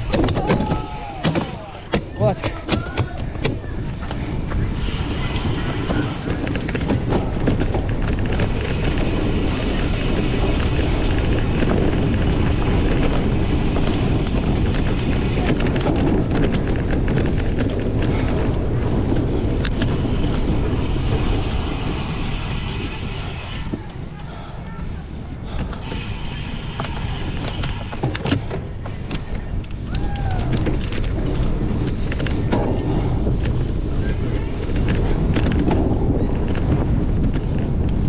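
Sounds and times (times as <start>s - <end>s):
bike rattling over rough ground: 0.0s - 38.0s
wind buffeting microphone: 0.0s - 38.0s.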